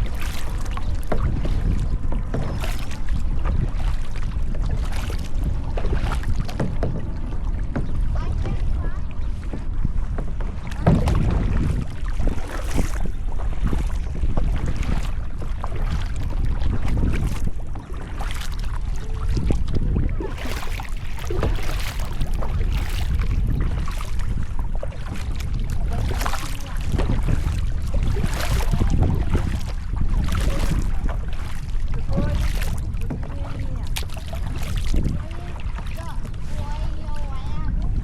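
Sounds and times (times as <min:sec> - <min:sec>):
kayak paddle splashing: 0:00.0 - 0:38.0
wind rumble on microphone: 0:00.0 - 0:38.0.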